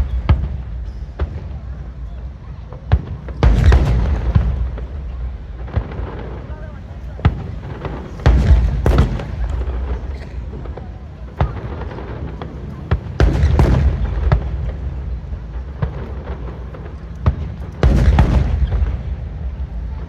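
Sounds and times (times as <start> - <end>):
continuous low rumble: 0.0 - 20.0
fireworks booms and cracks: 0.0 - 20.0.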